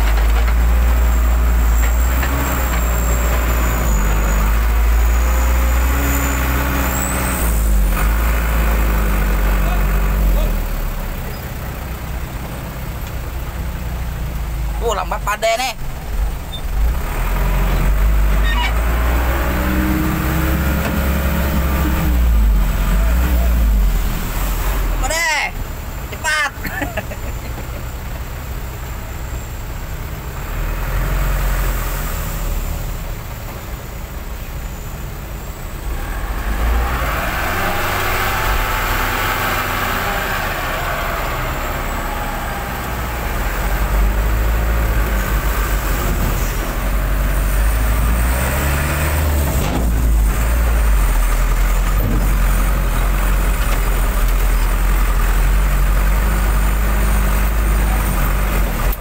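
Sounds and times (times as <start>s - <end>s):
truck engine revving: 0.0s - 59.0s.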